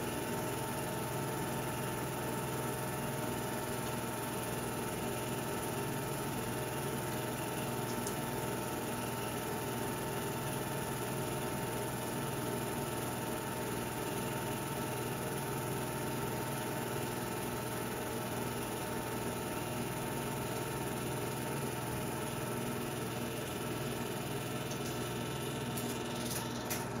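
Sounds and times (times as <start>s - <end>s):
film projector motor hum: 0.0s - 27.0s.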